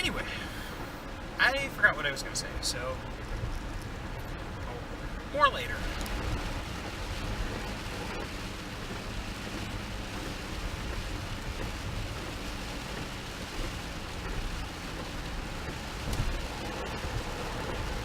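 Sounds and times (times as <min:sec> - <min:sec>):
rain on a car: 0:00.0 - 0:18.0
road rumble: 0:00.0 - 0:18.0.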